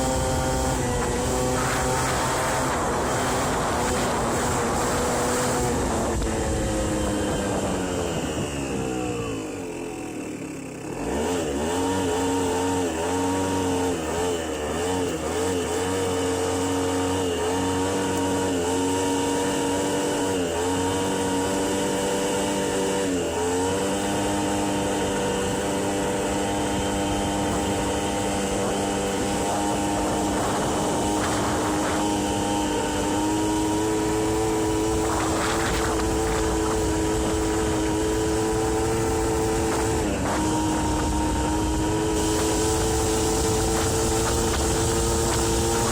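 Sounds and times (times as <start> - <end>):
road and wind rumble: 0.0 - 45.9
scooter two-stroke engine running: 0.0 - 45.9.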